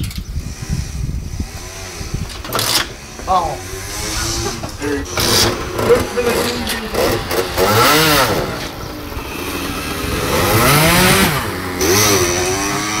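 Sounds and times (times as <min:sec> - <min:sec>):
motorcycle revving through gears: 0:00.0 - 0:13.0.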